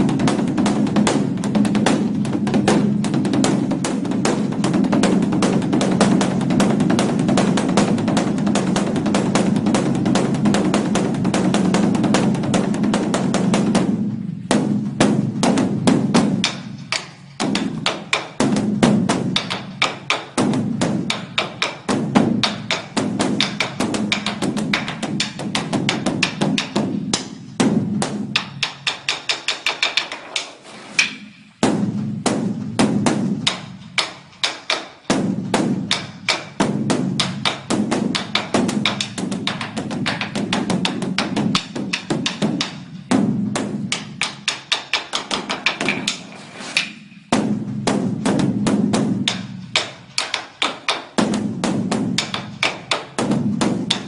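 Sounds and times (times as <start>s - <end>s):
large drum beaten rapidly: 0.0s - 30.0s, 31.6s - 46.3s, 47.3s - 54.0s.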